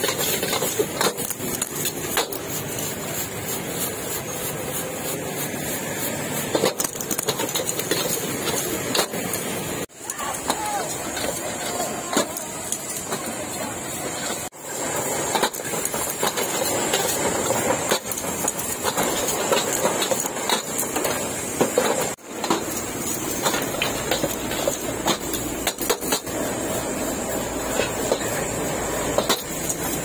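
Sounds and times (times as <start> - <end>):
cooking utensils and dishes clinking: 0.0 - 30.0
market noise: 0.0 - 30.0
steady traffic: 0.0 - 30.0.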